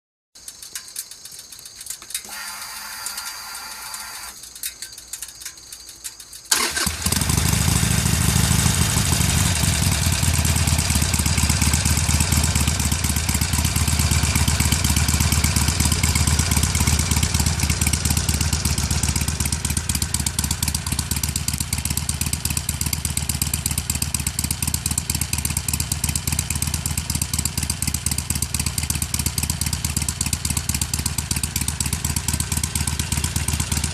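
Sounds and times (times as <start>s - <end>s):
motorcycle engine idling: 0.4s - 33.9s.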